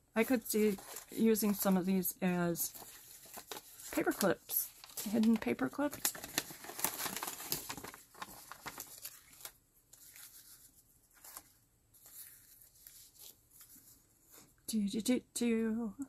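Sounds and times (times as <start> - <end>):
paper crinkling and rustling: 0.2 - 14.5.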